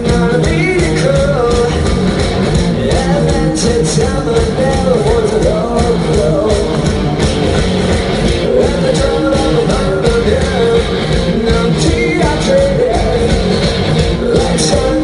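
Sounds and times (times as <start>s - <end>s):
person singing: 0.0s - 2.1s, 2.7s - 7.3s, 8.3s - 15.0s
rock band with guitar and drums: 0.0s - 15.0s.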